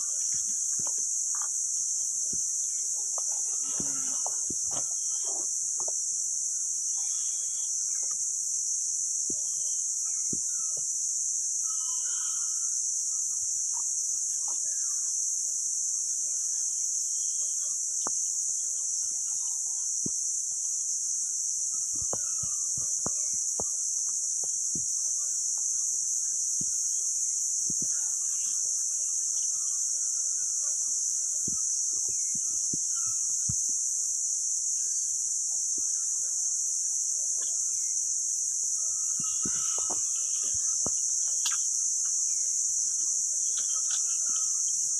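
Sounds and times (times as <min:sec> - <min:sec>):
insects droning: 0:00.0 - 0:44.9.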